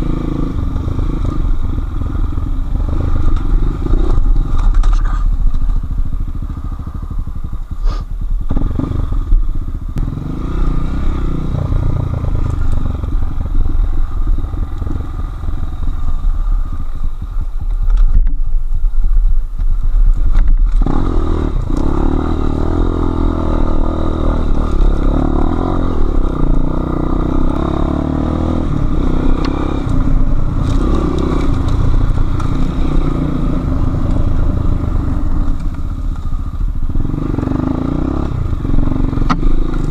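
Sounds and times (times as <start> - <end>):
motorcycle engine revving: 0.0 - 17.8, 20.3 - 39.9.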